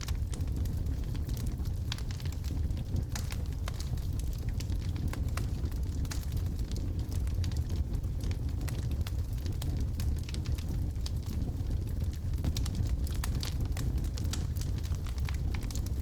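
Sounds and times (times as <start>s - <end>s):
wood logs burning in fireplace: 0.0s - 16.0s.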